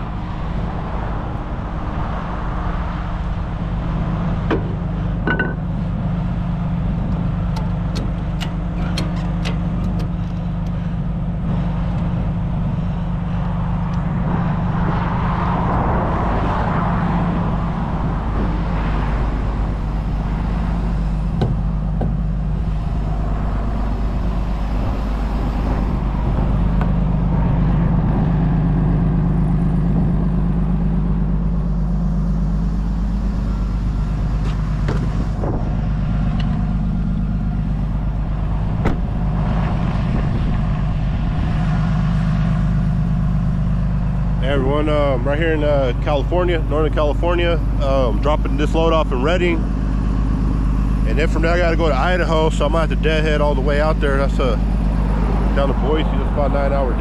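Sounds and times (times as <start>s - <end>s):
road traffic passing: 0.0s - 57.0s
truck engine idling: 0.0s - 57.0s.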